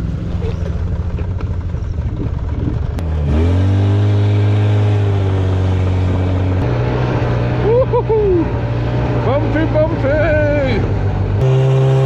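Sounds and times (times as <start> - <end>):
snowmobile engine idling and revving: 0.0 - 12.0.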